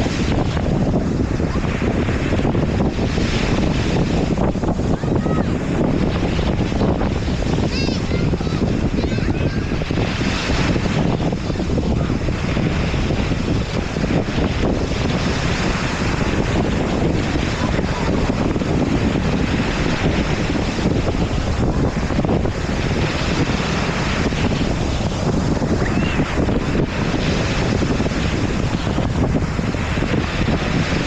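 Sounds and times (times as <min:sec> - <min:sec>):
ocean surf washing in: 0:00.0 - 0:31.0
wind buffeting microphone: 0:00.0 - 0:31.0.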